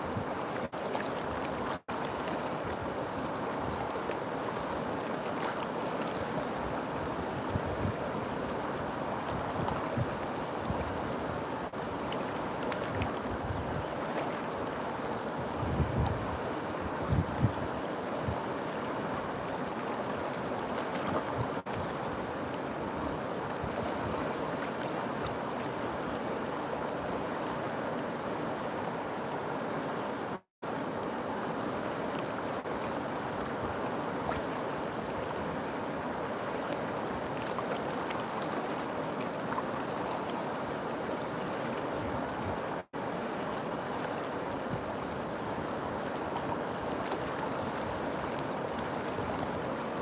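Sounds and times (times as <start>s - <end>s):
river water rushing: 0.0s - 50.0s.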